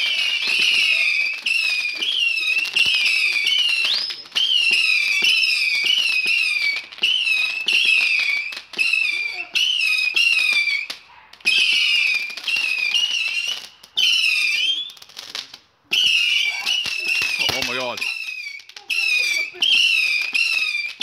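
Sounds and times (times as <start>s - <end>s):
crackling pops: 0.0s - 21.0s
whistling fireworks: 0.0s - 21.0s.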